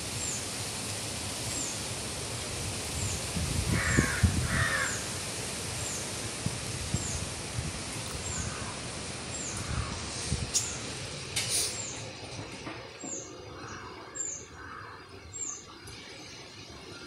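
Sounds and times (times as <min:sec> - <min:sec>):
wind in the trees: 0:00.0 - 0:17.0.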